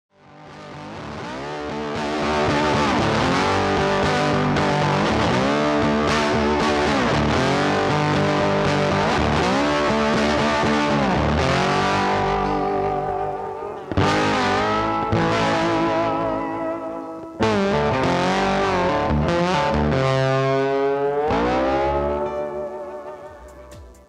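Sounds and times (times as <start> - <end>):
distorted electric guitar music: 0.1 - 24.0.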